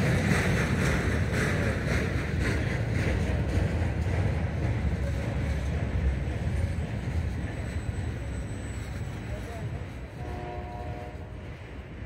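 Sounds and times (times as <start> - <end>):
train car rolling on track: 0.0 - 12.0.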